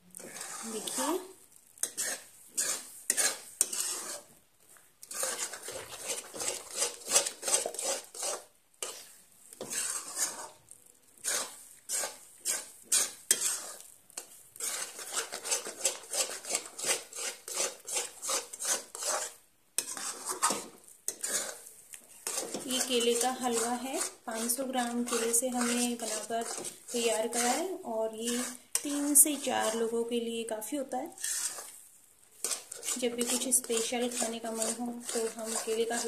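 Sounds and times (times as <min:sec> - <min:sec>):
metal spatula scraping pan: 0:00.2 - 0:04.4, 0:05.0 - 0:36.0.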